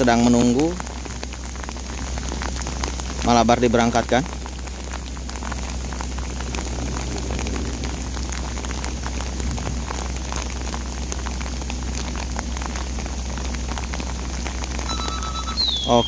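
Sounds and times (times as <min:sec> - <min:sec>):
heavy rain pouring: 0:00.0 - 0:16.0
raindrops clicking: 0:00.0 - 0:16.0
steady low rumble: 0:00.0 - 0:16.0.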